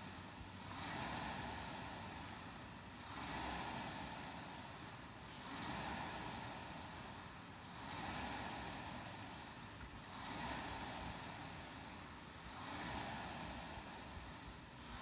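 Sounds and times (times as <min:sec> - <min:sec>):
rowing machine flywheel whooshing: 0:00.0 - 0:15.0.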